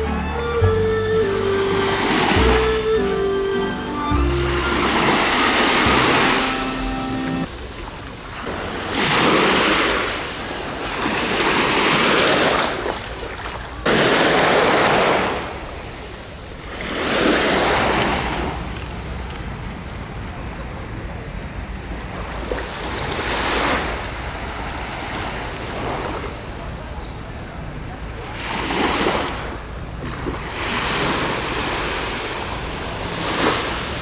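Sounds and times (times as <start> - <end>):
small waves washing on sand: 4.7 - 20.6, 21.4 - 34.0.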